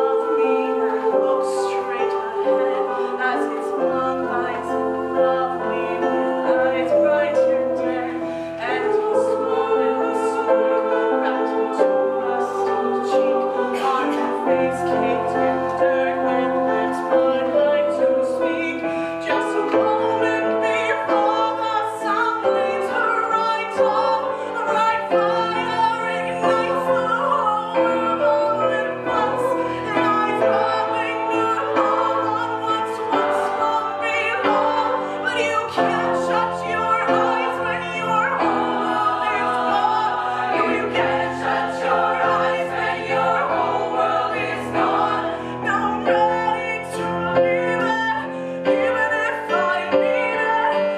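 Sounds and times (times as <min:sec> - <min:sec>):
choir singing: 0:00.0 - 0:50.9.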